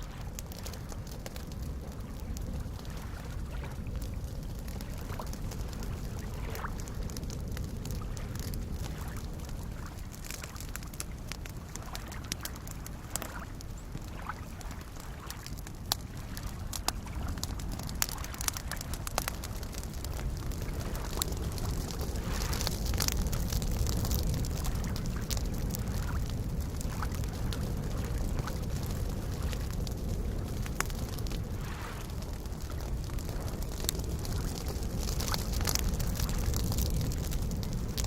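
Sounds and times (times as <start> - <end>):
campfire crackling and popping: 0.0 - 38.0
lake waves lapping: 0.1 - 7.1, 7.8 - 36.4.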